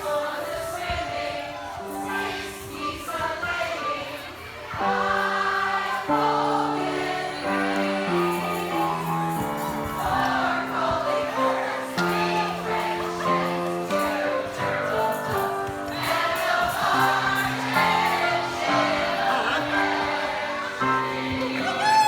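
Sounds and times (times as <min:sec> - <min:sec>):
group of voices singing: 0:00.0 - 0:22.0
instrumental accompaniment: 0:00.0 - 0:22.0.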